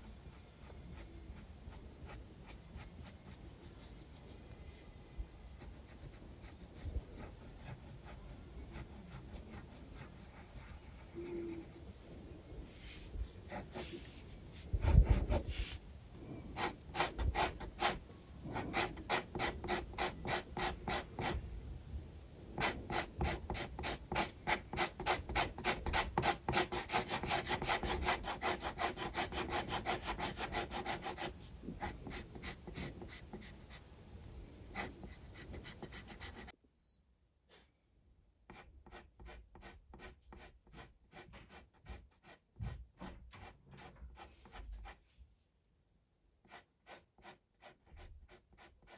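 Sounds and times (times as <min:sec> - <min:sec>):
pencil shading on paper: 0:00.3 - 0:04.6, 0:05.6 - 0:12.0, 0:12.8 - 0:15.8, 0:16.6 - 0:21.4, 0:22.6 - 0:33.8, 0:34.7 - 0:36.5, 0:38.5 - 0:45.0, 0:46.4 - 0:48.9.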